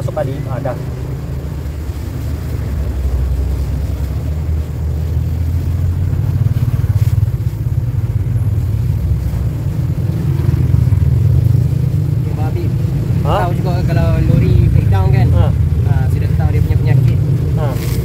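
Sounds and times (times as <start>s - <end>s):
passing road traffic rumble: 0.0s - 18.0s.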